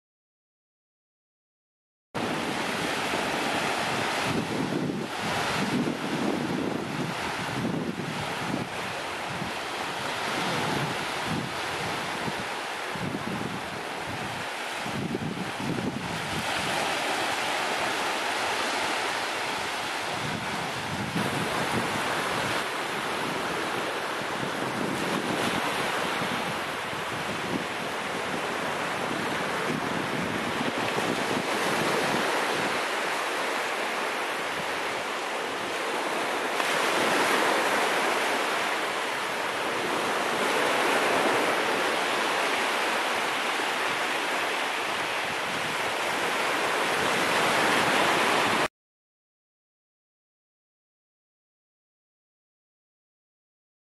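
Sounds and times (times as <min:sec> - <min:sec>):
surf washing onto beach: 0:02.2 - 0:48.7
wind on microphone: 0:02.2 - 0:48.7.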